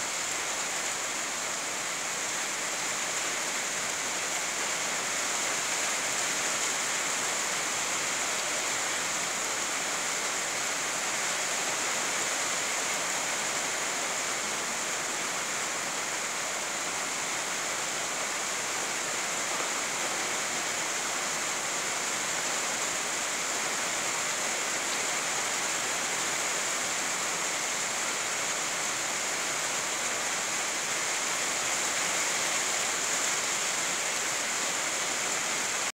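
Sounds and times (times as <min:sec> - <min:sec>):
steady rainfall: 0:00.0 - 0:36.0.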